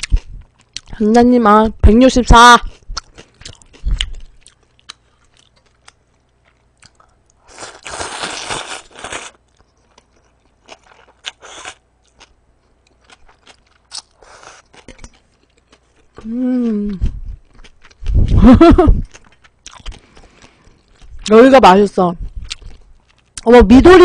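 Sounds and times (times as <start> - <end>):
wet chewing and mouth clicks: 0.0 - 1.0, 2.6 - 21.4, 22.2 - 23.5.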